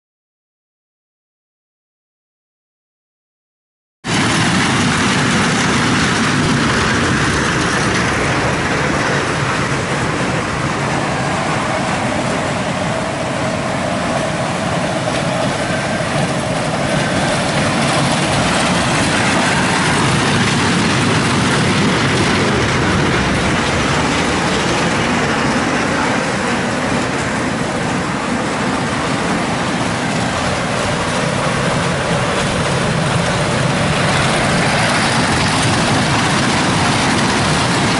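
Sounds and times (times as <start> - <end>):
train wheels rumbling on rails: 4.1 - 37.9.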